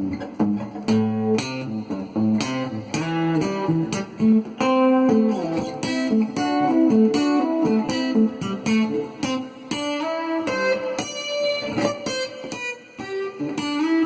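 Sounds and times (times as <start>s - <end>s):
acoustic guitar plucked melody: 0.0s - 14.0s.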